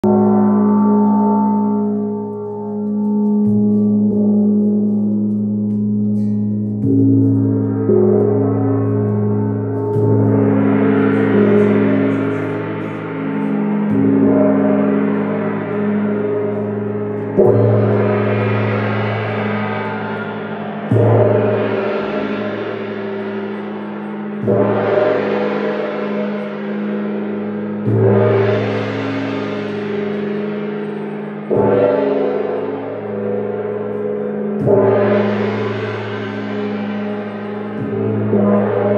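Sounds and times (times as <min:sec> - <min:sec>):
gongs struck with mallets: 0:00.0 - 0:38.9.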